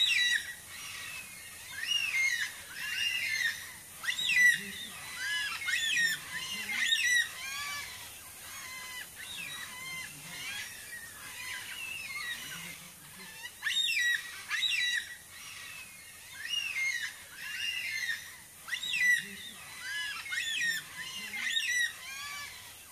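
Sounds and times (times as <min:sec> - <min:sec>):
cockatoos calling: 0:00.0 - 0:22.9.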